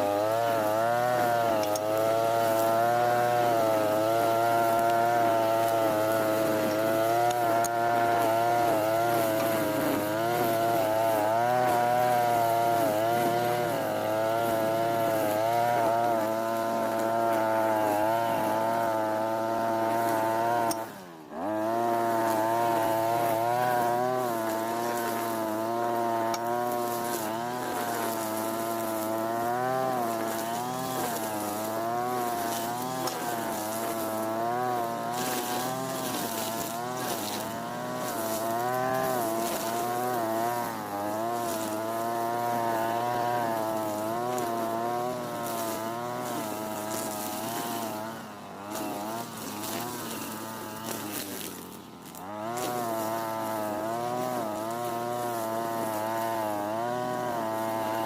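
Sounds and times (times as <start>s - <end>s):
brush cutter engine revving: 0.0s - 58.0s.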